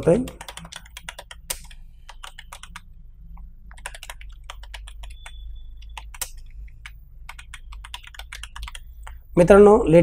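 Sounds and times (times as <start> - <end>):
keyboard typing: 0.0 - 9.3
low steady hum: 0.0 - 10.0.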